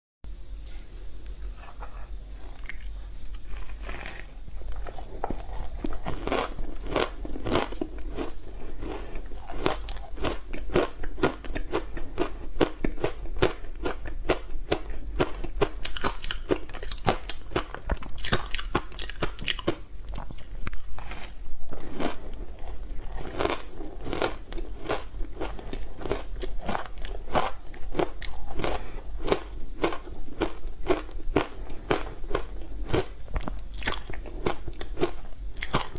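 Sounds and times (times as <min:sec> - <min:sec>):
ice crunching being chewed: 0:02.4 - 0:35.9.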